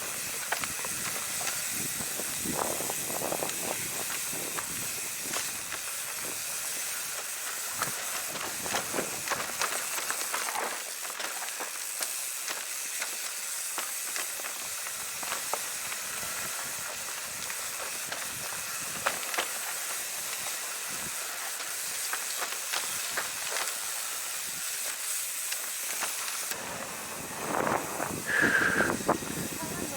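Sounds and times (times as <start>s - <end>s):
bike clicks and rattles: 0.0s - 29.9s
bike tyres hissing on gravel: 0.0s - 29.9s.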